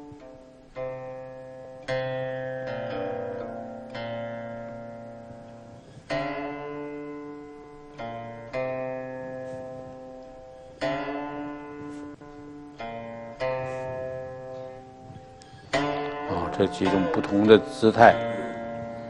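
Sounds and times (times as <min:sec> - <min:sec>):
slow plucked-string chords: 0:00.0 - 0:19.0.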